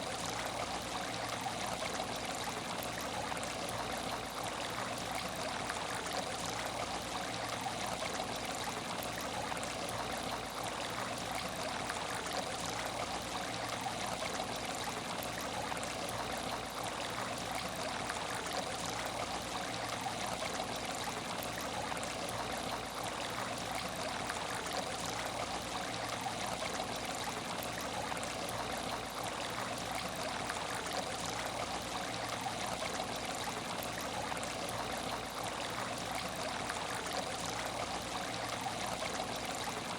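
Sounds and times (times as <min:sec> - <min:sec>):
water trickling into tank: 0:00.0 - 0:39.9.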